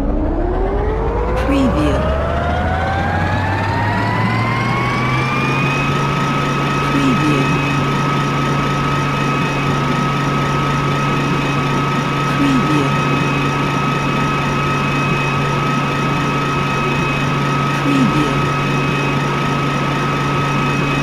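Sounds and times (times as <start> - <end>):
low drone: 0.0 - 21.0
spaceship engine whine: 0.0 - 21.0.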